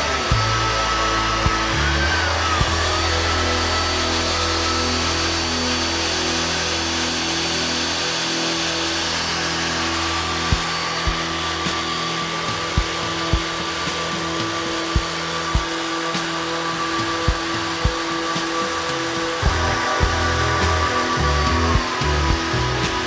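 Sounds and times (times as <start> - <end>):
background music with beat: 0.0 - 23.0
electric motor whining: 0.0 - 23.0.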